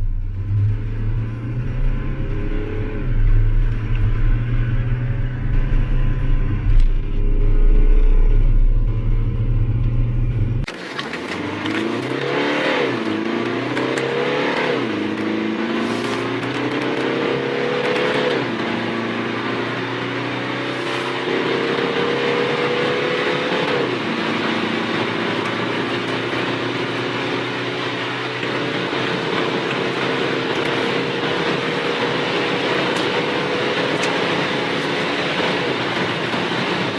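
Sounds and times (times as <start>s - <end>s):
diesel engine accelerating hard: 0.0s - 36.9s.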